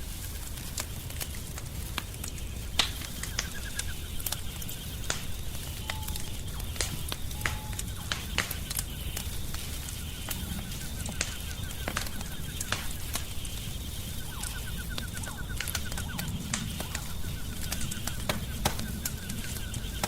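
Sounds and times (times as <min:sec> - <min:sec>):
low rumble of flames: 0:00.0 - 0:20.0
wood fire crackling and popping: 0:00.0 - 0:20.0
faint rapid clicking notes: 0:00.2 - 0:20.0.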